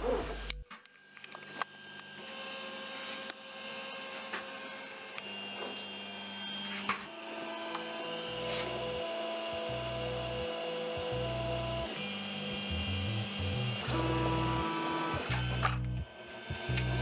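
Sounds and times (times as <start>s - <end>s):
stepper motors whining: 1.4s - 17.0s.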